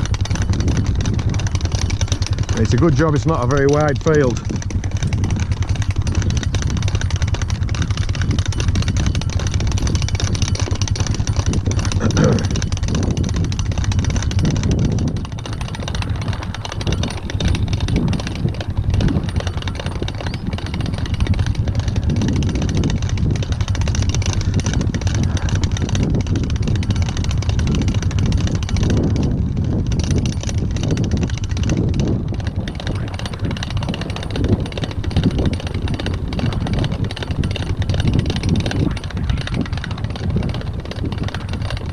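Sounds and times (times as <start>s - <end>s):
fence reel clicking rattle: 0.0s - 41.9s
low rumble: 0.0s - 41.9s.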